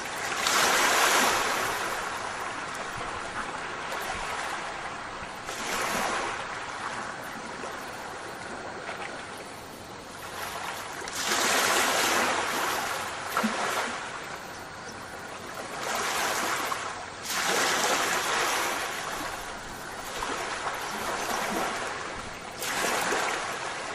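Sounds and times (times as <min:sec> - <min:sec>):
rushing water surges: 0:00.0 - 0:09.3, 0:10.3 - 0:14.3, 0:15.6 - 0:23.9.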